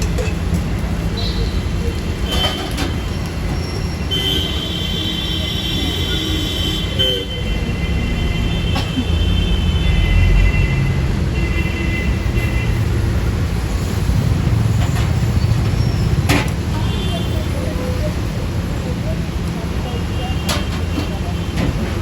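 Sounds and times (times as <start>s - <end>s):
heavy vehicle rumble: 0.0s - 22.0s.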